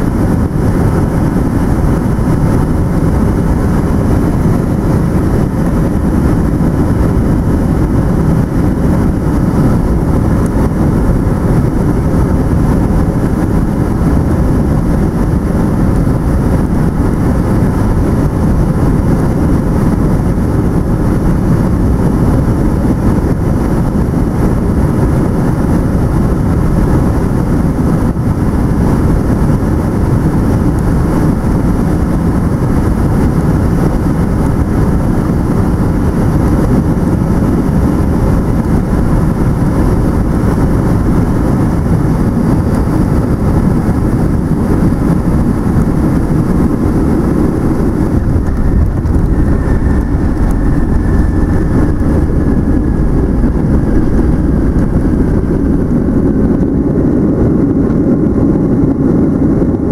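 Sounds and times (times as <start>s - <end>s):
aircraft engine noise: 0.0s - 59.9s
airflow over fuselage: 0.0s - 59.9s.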